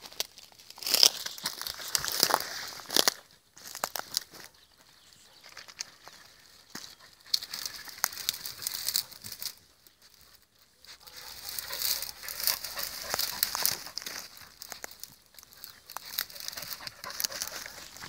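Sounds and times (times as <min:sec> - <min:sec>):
twigs rustling and crackling: 0:00.0 - 0:18.0.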